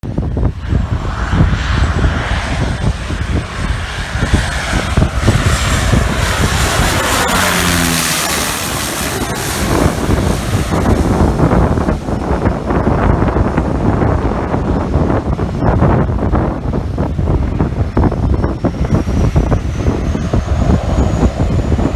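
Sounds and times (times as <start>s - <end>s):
wind buffeting microphone: 0.0s - 21.9s
propeller aircraft passing: 0.1s - 21.9s.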